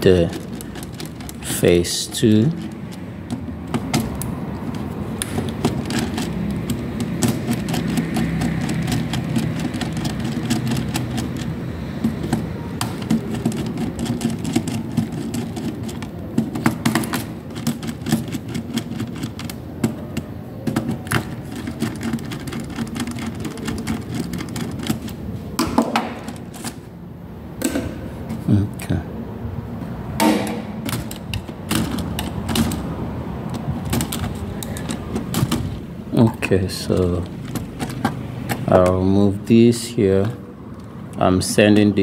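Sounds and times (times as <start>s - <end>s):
screwdriver clicking on breaker screws: 0.0s - 26.8s, 30.2s - 35.8s, 36.7s - 39.3s.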